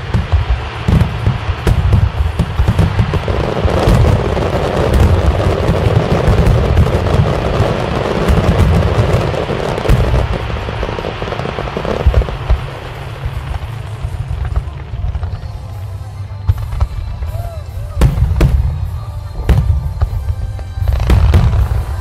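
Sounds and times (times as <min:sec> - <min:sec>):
firework crackling: 0:00.0 - 0:22.0.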